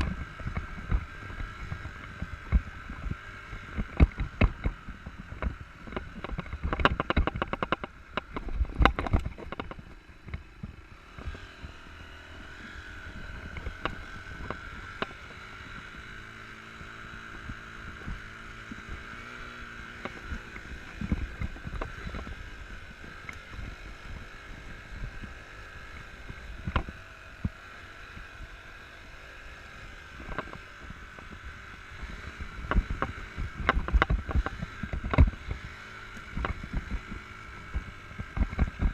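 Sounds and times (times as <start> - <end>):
dirt bike engine at low revs: 0.0 - 38.9.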